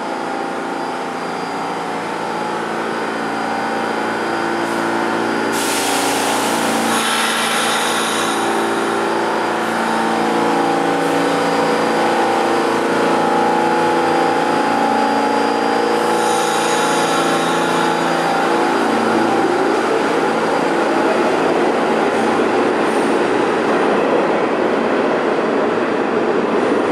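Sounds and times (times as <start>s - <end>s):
subway train motor whine: 0.0s - 26.9s
steel wheels rumbling on rails: 1.6s - 26.9s.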